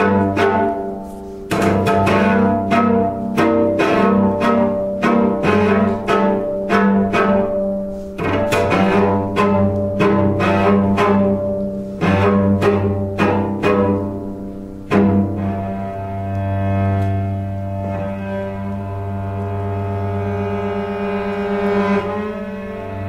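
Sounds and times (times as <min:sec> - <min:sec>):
low bowed string notes: 0:00.0 - 0:23.0
plucked string notes: 0:00.0 - 0:23.0.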